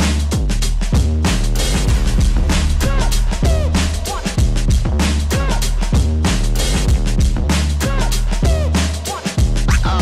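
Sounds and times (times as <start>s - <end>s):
electronic dance music: 1.7s - 10.0s.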